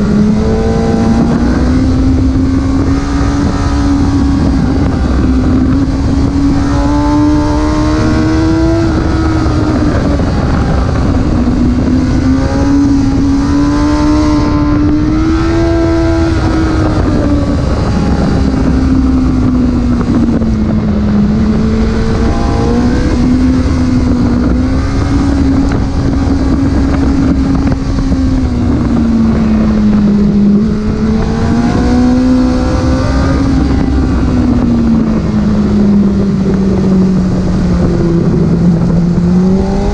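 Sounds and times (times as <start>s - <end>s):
car engine running: 0.0s - 39.9s
road and wind noise: 0.0s - 39.9s.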